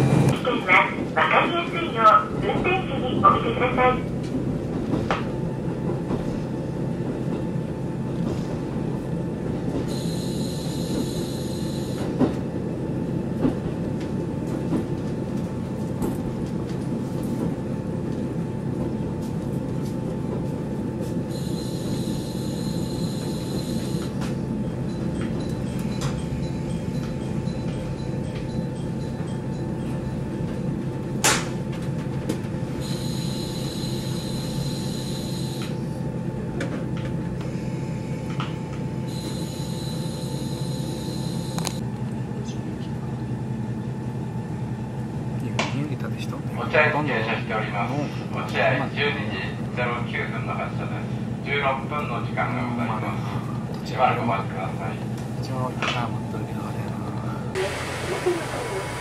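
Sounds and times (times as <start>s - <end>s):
railcar engine and wheels rumbling: 0.0s - 59.0s.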